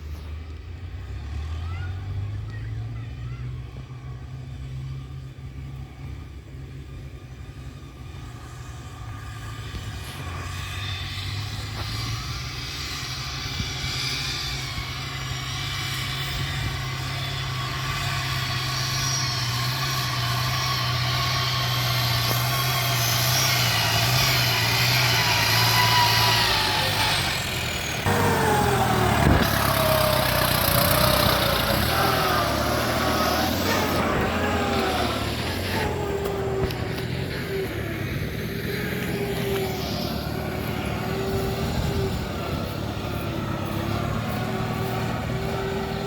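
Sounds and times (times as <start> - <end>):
vehicle engine humming: 0.0 - 46.0.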